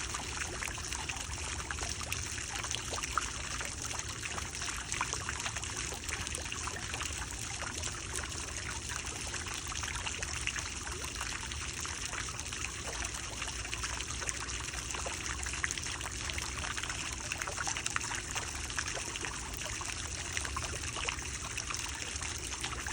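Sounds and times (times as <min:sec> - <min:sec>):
water trickling: 0:00.0 - 0:22.9.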